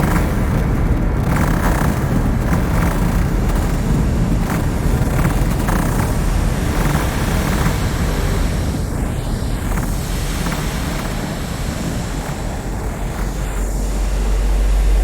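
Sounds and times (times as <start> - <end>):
deep rumbling drone: 0.0 - 15.0
noisy hiss: 0.0 - 15.0
swells of mid-range noise: 0.0 - 15.0.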